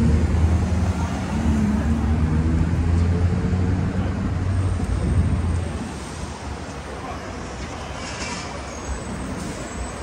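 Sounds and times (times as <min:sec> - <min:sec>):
low rumble of vehicle engines: 0:00.0 - 0:10.0.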